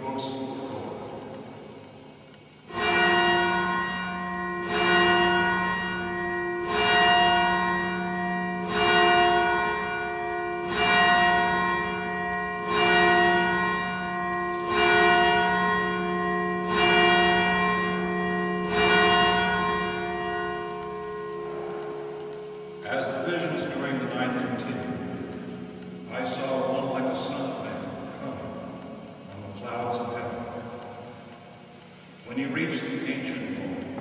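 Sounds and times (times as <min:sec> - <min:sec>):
church bell tolling: 0:02.7 - 0:30.8.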